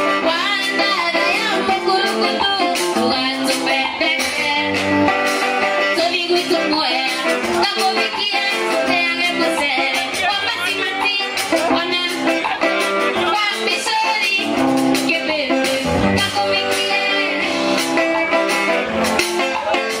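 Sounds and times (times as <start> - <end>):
woman singing into a microphone: 0.0 - 5.0, 5.8 - 17.8
drum kit beat: 0.0 - 20.0
guitar: 0.0 - 20.0.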